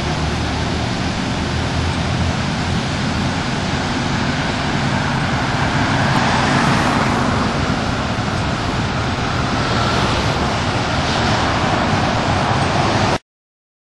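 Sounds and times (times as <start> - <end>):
road traffic driving by: 0.0 - 13.2.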